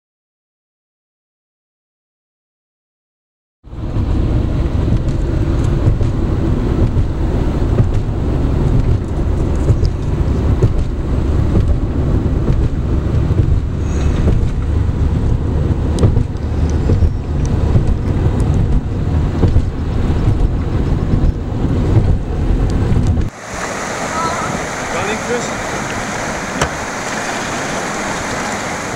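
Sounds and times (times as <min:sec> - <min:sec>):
car road rumble: 0:03.7 - 0:28.9
wind noise: 0:03.7 - 0:28.9.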